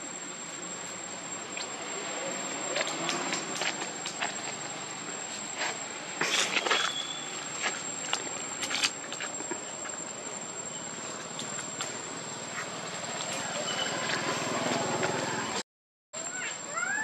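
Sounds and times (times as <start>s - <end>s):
high insect drone: 0.0s - 15.6s.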